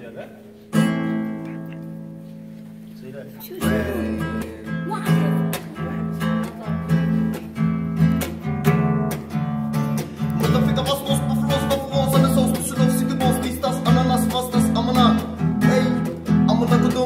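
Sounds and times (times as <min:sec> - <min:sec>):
classical guitar strummed chords: 0:00.5 - 0:17.0.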